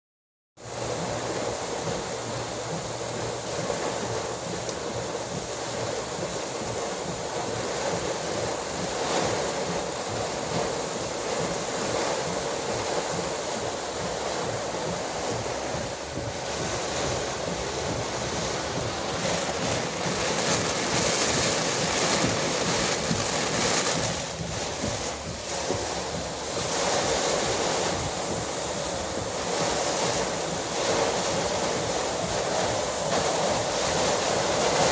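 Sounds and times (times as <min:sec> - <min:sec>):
high wind rushing over microphone: 0:00.6 - 0:34.9.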